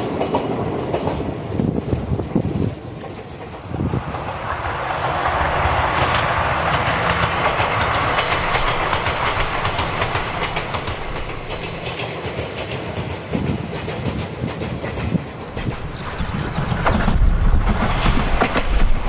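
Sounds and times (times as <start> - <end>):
electric train running past: 0.0 - 19.0
rapid clicking over rail joints: 0.0 - 19.0.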